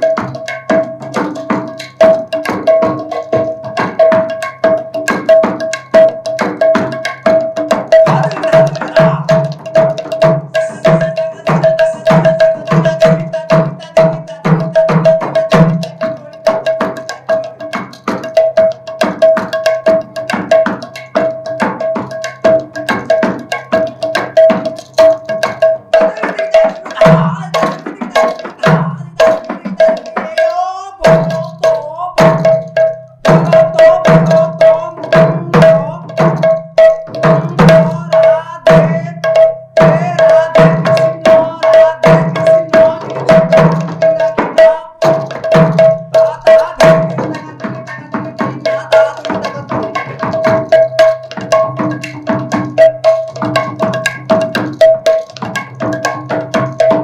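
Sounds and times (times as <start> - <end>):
barrel drum played in fast strokes: 0.0 - 57.0.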